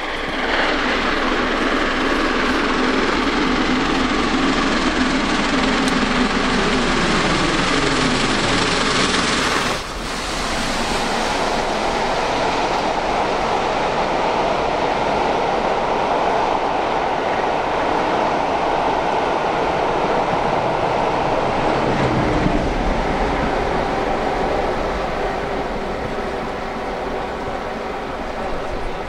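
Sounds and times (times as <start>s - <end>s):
train coaches rumbling on rails: 0.0s - 29.0s.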